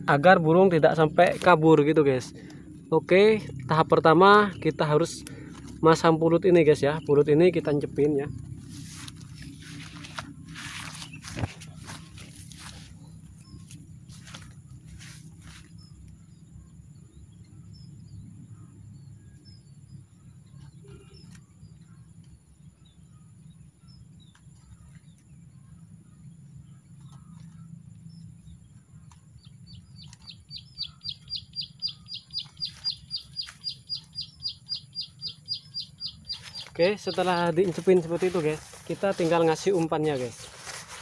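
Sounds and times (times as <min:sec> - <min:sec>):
low background rumble: 0:00.0 - 0:41.0
small bird chirping: 0:02.5 - 0:41.0.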